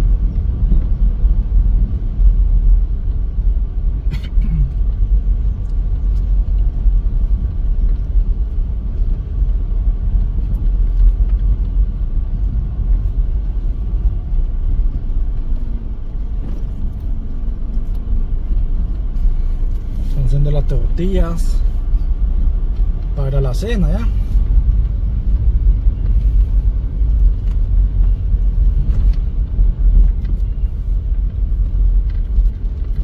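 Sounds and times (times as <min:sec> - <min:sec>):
car engine and tyre rumble: 0:00.0 - 0:33.0.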